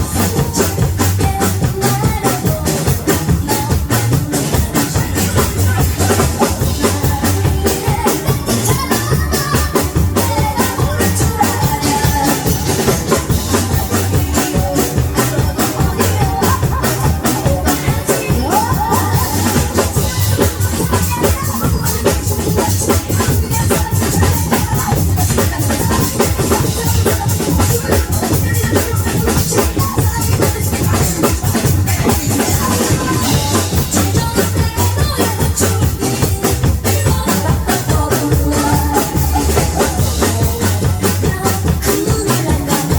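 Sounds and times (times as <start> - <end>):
drum kit beat: 0.0 - 42.9
loud amplified song: 0.0 - 42.9.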